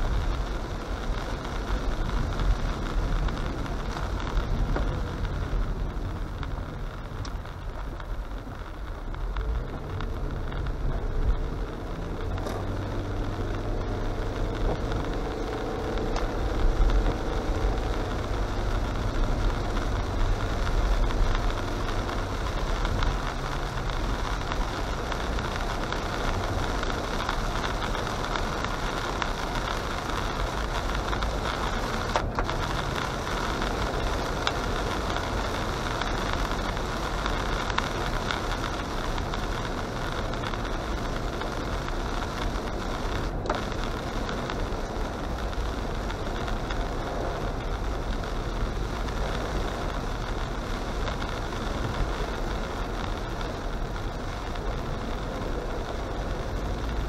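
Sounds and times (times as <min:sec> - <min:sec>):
car engine running: 0:00.0 - 0:57.0
tyres hissing on wet road: 0:00.0 - 0:57.0.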